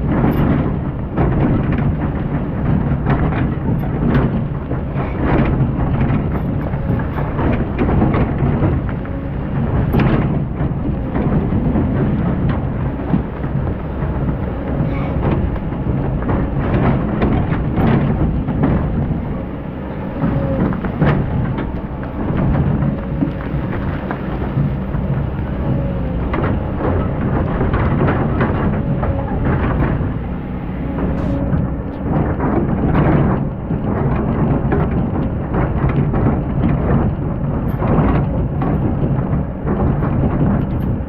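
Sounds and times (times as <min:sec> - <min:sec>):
excavator engine rumbling: 0:00.0 - 0:41.0.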